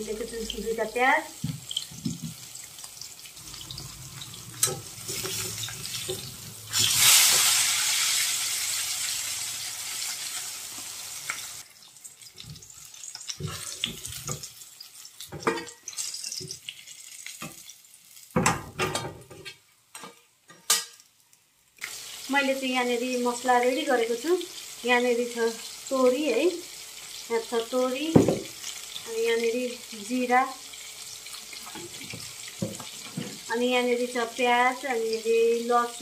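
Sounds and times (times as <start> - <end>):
fish sizzling in hot oil: 0.0 - 19.2, 20.7 - 36.0.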